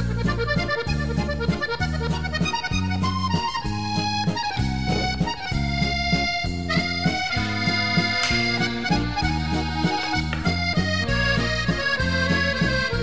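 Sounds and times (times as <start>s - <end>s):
accordion music: 0.0s - 13.0s.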